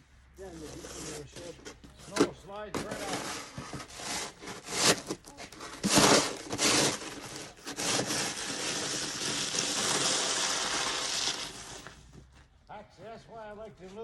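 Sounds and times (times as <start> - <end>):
snow shovel scraping: 0.4 - 12.2.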